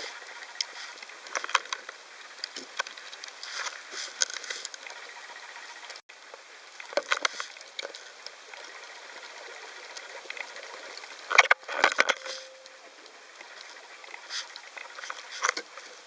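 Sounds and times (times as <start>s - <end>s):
underwater hiss with crackles: 0.0s - 16.0s.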